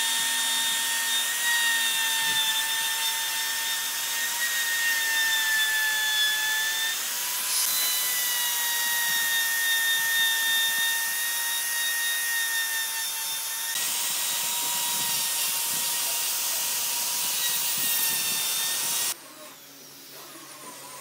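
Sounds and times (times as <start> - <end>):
electric router whining: 0.0 - 21.0
router bit cutting wood: 0.0 - 21.0.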